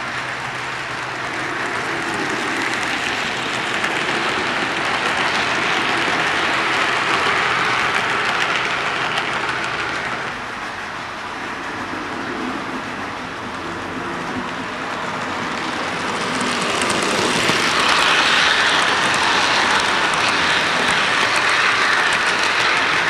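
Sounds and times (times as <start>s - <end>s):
model train rolling on track: 0.0s - 23.0s.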